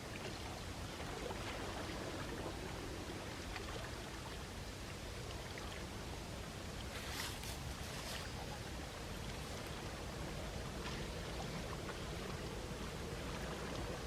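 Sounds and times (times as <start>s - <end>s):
sea waves washing on shore: 0.0s - 14.0s
wave splash and fizz: 0.0s - 14.0s.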